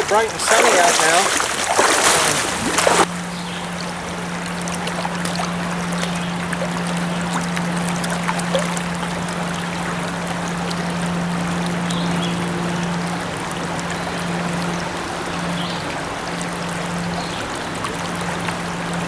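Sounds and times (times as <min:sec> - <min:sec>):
low hum: 0:00.0 - 0:19.0
stream water flowing: 0:00.0 - 0:19.0.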